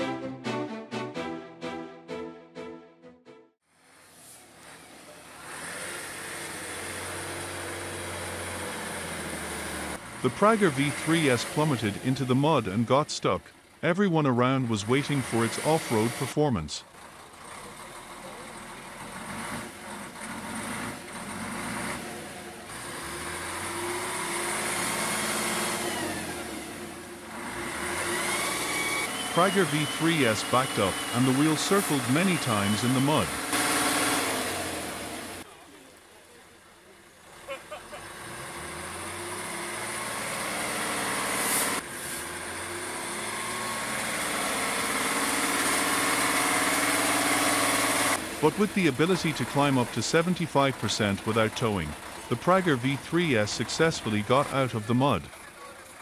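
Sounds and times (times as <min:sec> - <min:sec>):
diesel truck engine working hard: 0:03.8 - 0:56.0.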